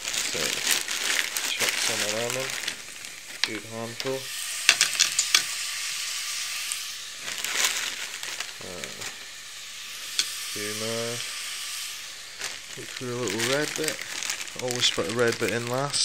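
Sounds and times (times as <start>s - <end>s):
sharp crackles of frying: 0.0s - 16.0s
vegetables sizzling in a pan: 0.0s - 16.0s.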